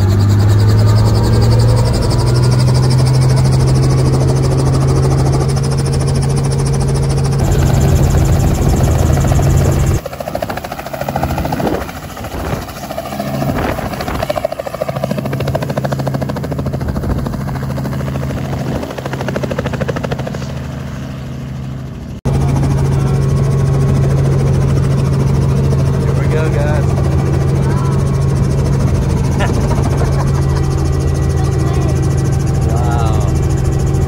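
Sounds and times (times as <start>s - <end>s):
helicopter engine and rotor hum: 0.0s - 34.0s
helicopter rotor chop: 0.0s - 34.0s.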